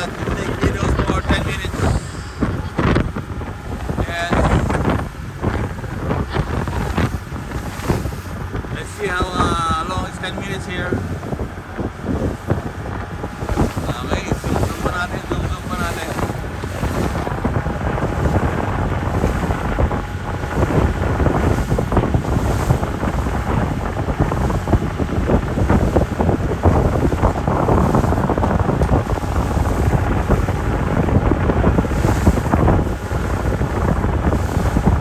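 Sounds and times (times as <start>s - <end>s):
boat running over water: 0.0s - 35.0s
wind buffeting microphone: 0.0s - 35.0s.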